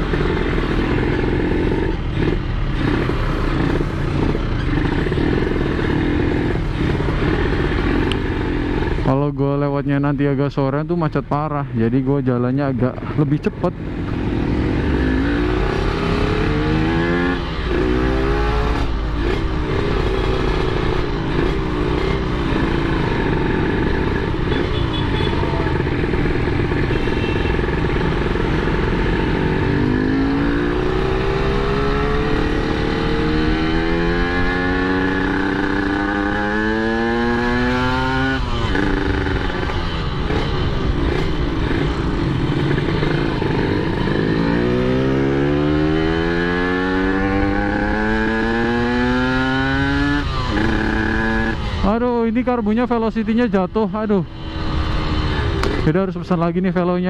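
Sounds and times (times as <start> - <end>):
two-stroke motorcycle engine revving: 0.0 - 9.4, 12.3 - 57.0.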